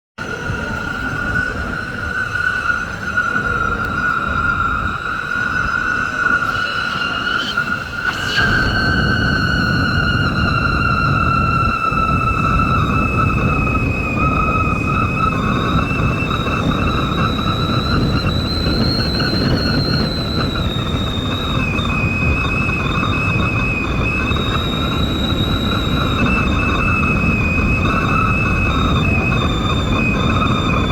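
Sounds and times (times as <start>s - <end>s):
high-pitched whistle: 0.2s - 30.9s
wind buffeting microphone: 0.2s - 30.9s.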